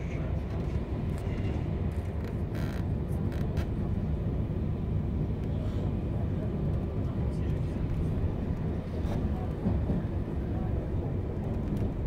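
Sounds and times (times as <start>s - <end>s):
train rumble from inside: 0.0s - 12.0s.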